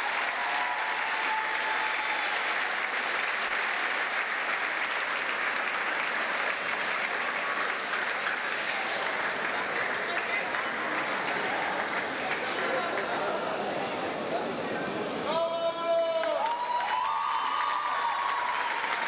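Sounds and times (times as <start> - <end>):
audience applauding: 0.0 - 13.3, 16.1 - 19.0.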